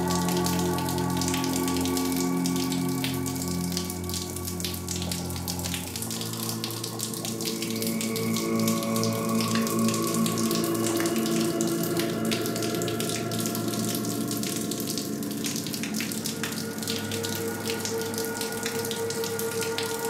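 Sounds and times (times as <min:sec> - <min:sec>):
low tone drone: 0:00.0 - 0:20.0.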